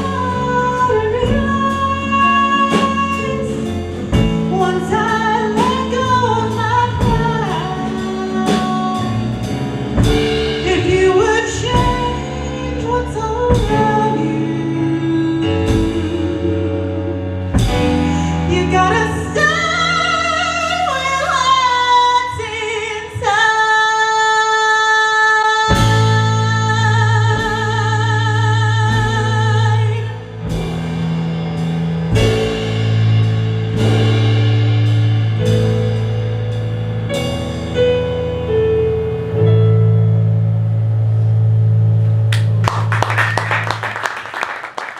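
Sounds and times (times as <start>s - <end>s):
instrumental backing: 0.0s - 44.9s.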